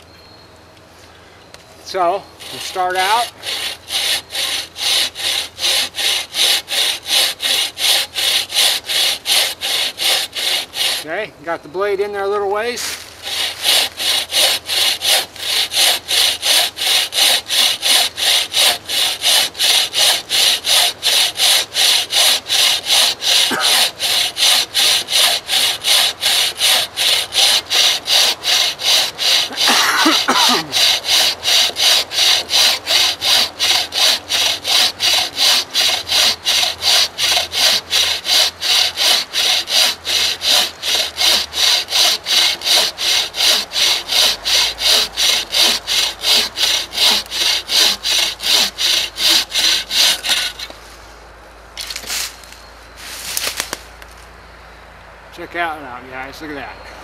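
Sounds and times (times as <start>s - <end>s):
saw rasping through log: 1.9s - 11.2s, 11.9s - 51.0s.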